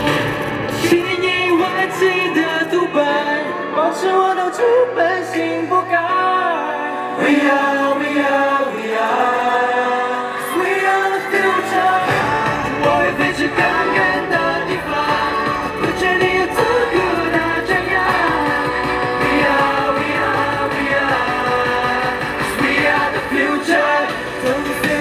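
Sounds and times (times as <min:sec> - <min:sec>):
pop song with singing: 0:00.0 - 0:25.0.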